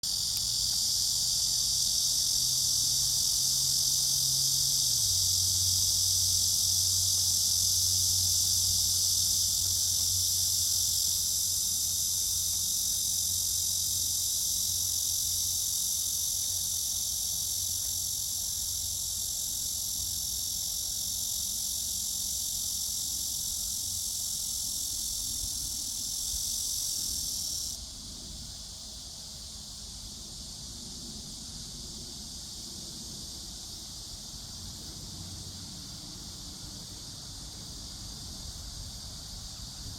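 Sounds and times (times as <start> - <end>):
cicada buzzing: 0.0 - 39.9.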